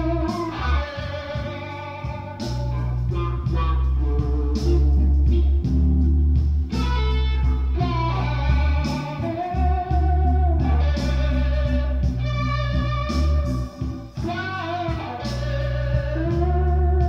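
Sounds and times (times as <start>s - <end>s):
electric blues lead guitar: 0.0s - 17.0s
strong bass line: 0.0s - 17.0s.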